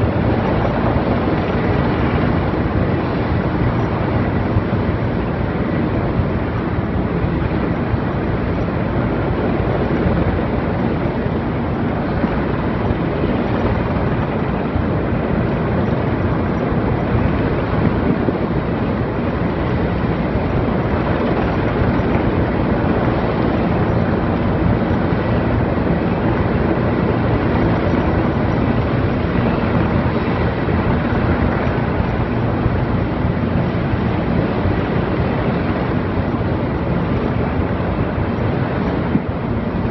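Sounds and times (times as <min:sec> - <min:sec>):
helicopter hovering: 0:00.0 - 0:39.9.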